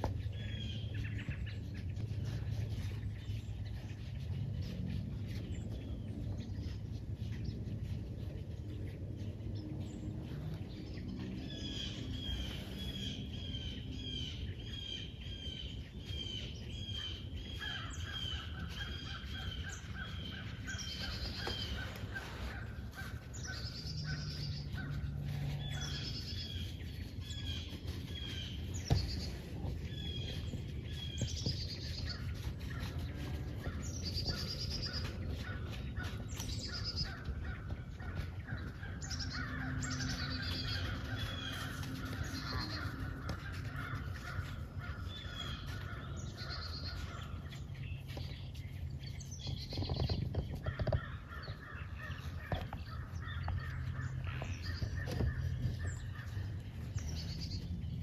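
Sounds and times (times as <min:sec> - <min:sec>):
birds chirping: 0:00.0 - 0:58.0
low steady rumble: 0:00.0 - 0:58.0
high wavering bird calls: 0:09.5 - 0:58.0.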